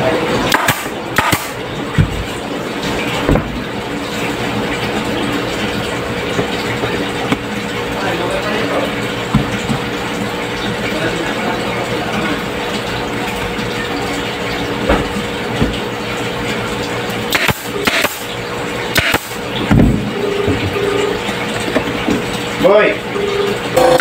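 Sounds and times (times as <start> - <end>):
workshop machinery hum: 0.0 - 24.0.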